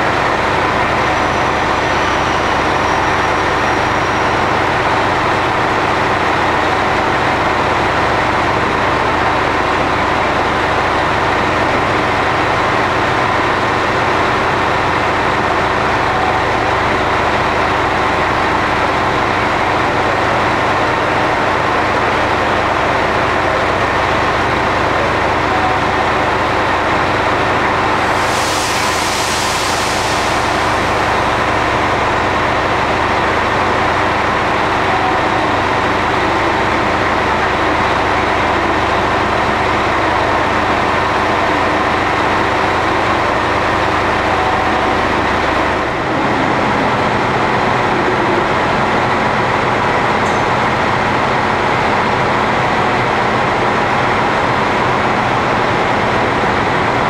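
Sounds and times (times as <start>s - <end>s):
diesel railcar idling: 0.0s - 57.0s.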